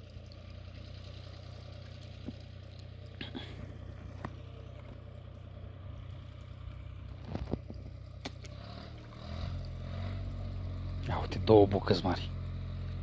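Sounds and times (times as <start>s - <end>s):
low motor-like hum: 0.0s - 13.0s.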